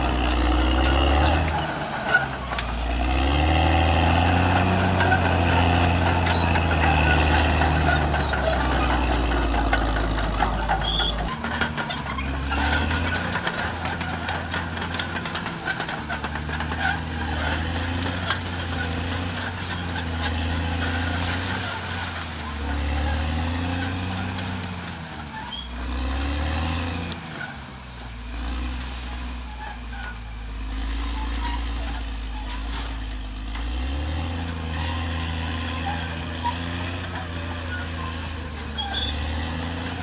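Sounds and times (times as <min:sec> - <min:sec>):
steady high squeal: 0:00.0 - 0:33.1, 0:34.8 - 0:40.0
bulldozer diesel engine under load: 0:00.0 - 0:40.0
faint engine with clattering: 0:00.0 - 0:40.0.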